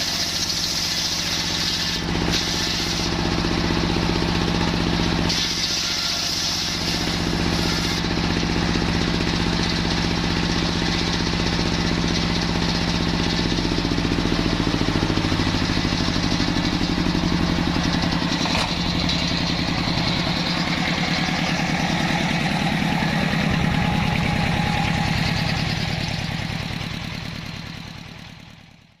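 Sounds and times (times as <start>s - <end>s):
sawmill engine running: 0.0s - 29.0s.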